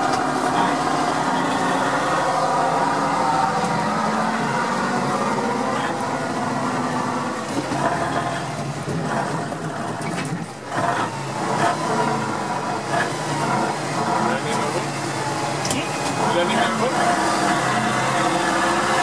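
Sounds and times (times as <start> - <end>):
truck diesel engine under load: 0.0 - 19.0.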